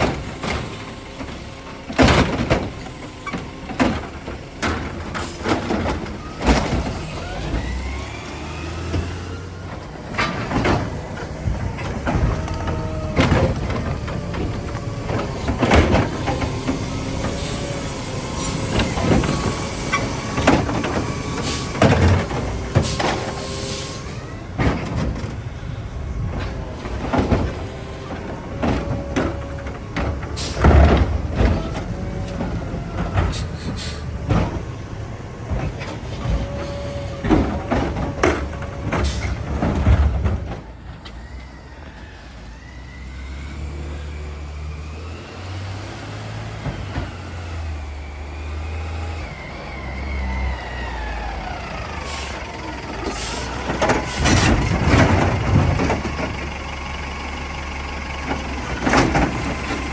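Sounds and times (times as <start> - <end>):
loud clanks and bangs: 0.0 - 8.0, 8.7 - 41.1, 50.9 - 56.8, 58.2 - 59.9
truck engine rumble: 0.0 - 59.9.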